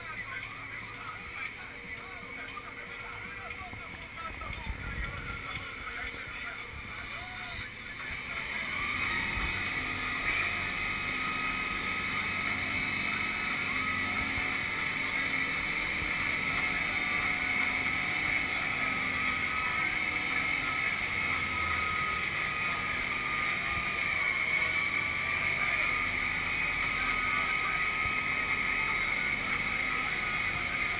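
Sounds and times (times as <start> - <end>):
truck engine droning: 0.0 - 30.9.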